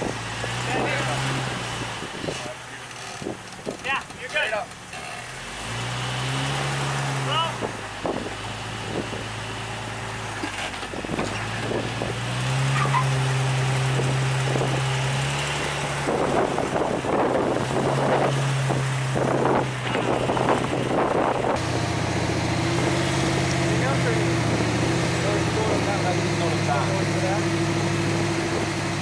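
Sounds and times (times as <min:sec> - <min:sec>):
off-road vehicle engine: 0:00.0 - 0:29.0.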